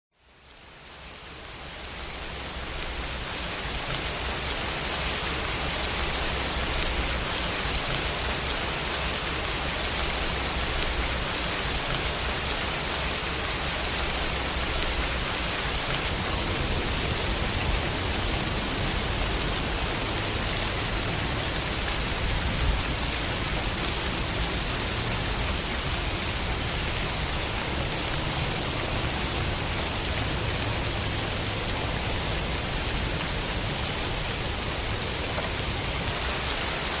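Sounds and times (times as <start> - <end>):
steady rain falling: 0.1 - 37.0.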